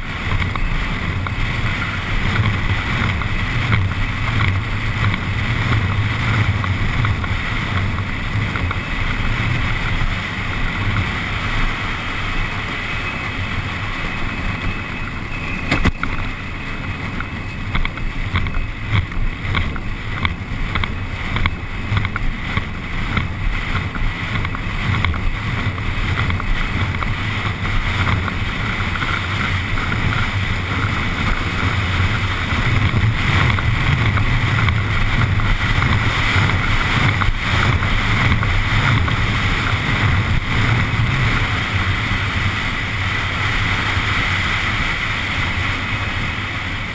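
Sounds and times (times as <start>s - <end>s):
wheels rumbling on asphalt: 0.0s - 46.9s
wind buffeting microphone: 0.0s - 46.9s.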